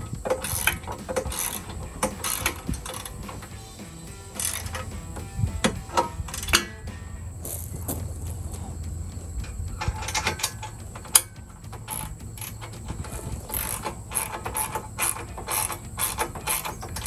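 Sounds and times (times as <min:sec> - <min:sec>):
socket ratchet clicking: 0:00.0 - 0:03.6, 0:04.3 - 0:06.8, 0:09.4 - 0:17.0.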